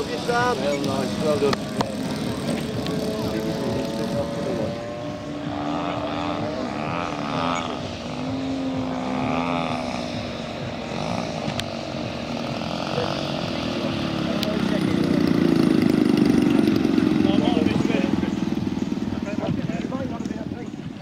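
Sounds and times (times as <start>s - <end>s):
model aircraft propeller engine: 0.0s - 21.0s.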